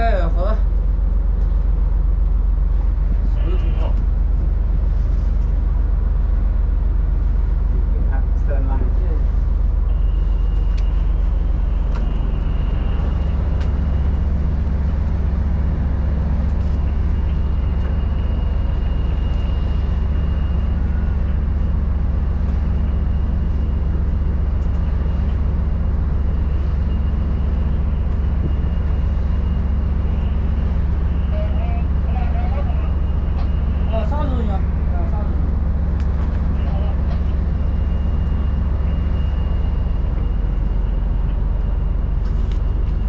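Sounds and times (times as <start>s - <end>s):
ship engine low drone: 0.0s - 43.0s.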